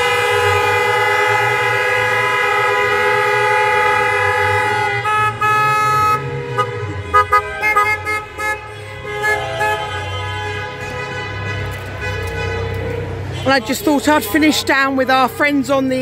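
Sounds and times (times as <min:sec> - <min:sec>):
car horns sounding: 0:00.0 - 0:14.3.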